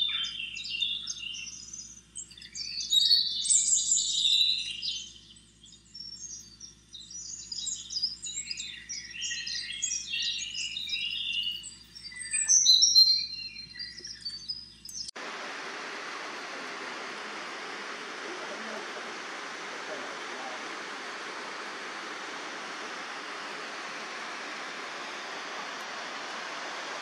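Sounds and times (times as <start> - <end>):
songbirds chirping: 0.0 - 27.0.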